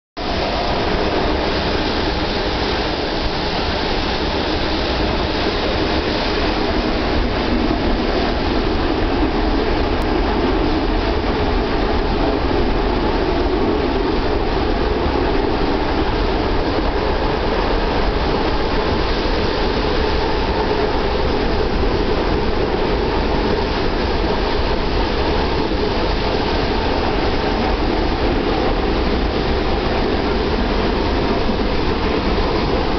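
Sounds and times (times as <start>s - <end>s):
moving train inside carriage: 0.2s - 32.9s.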